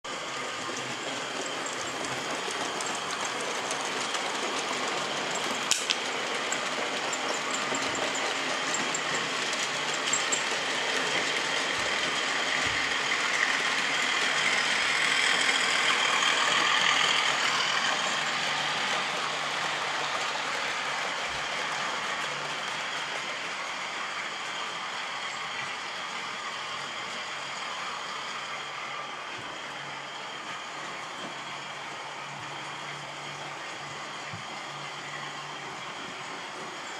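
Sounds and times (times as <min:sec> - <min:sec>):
model train whirring on track: 0:00.0 - 0:36.9.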